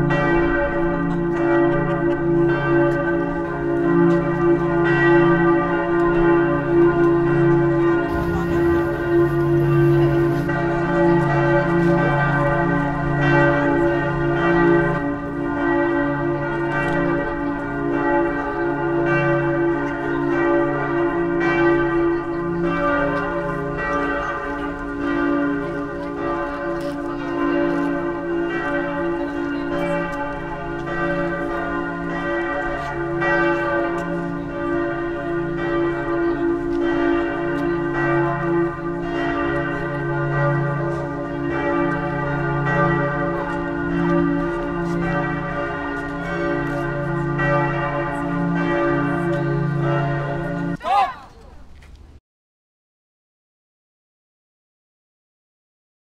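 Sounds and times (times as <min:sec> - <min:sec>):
church bells pealing: 0:00.0 - 0:50.8.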